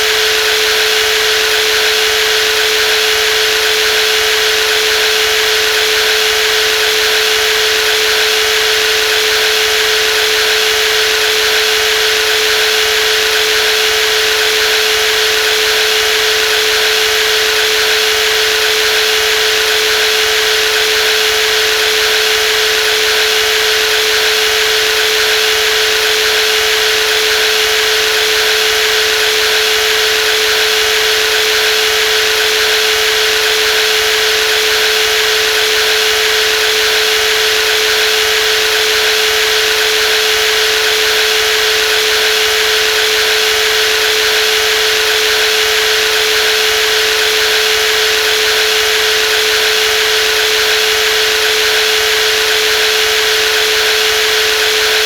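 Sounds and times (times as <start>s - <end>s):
jigsaw running: 0.0s - 55.0s.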